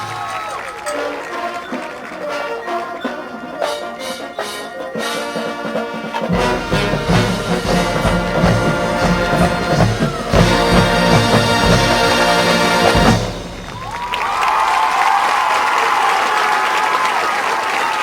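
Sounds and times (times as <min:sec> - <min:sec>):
marching band playing: 0:00.0 - 0:14.7.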